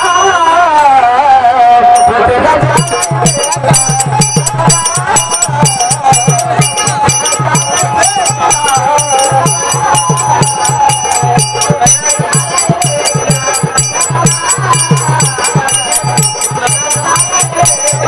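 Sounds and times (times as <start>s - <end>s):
person singing devotional song: 0.0s - 18.0s
small hand cymbals clashing: 2.8s - 18.0s.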